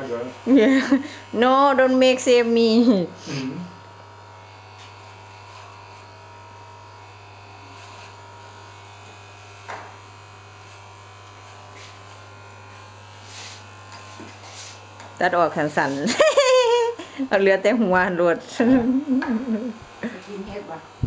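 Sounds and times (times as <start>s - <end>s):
electric hair clippers buzzing: 0.0s - 21.0s.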